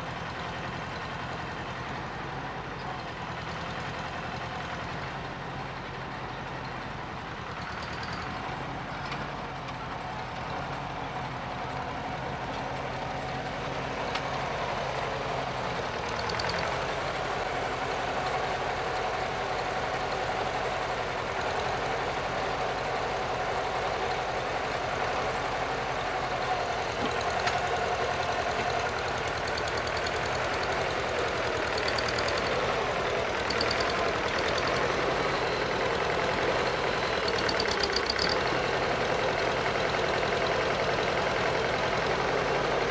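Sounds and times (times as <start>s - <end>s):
tractor engine running under load: 0.0s - 42.9s.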